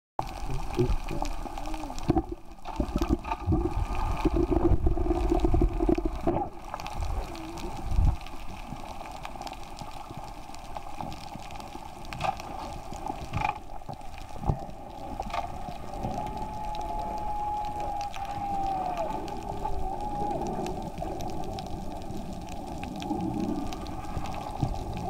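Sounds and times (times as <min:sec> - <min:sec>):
regulator bubbles gurgling: 0:00.2 - 0:25.0
underwater hum: 0:00.2 - 0:25.0.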